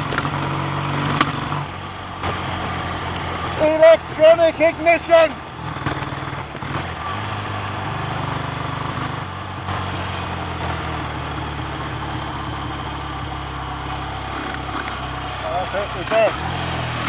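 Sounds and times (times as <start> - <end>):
motorcycle engine misfiring: 0.0 - 17.0.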